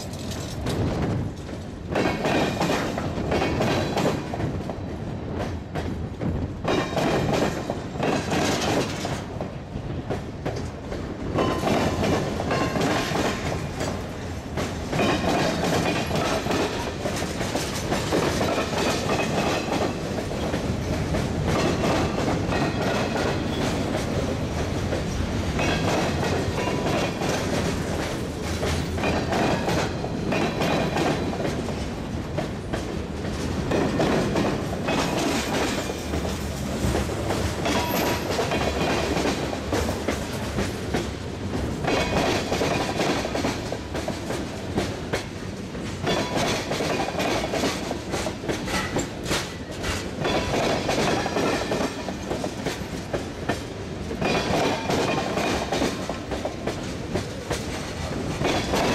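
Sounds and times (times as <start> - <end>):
steel wheels rumbling on rail: 0.0 - 58.9
train trucks clicking and clattering: 0.0 - 58.9.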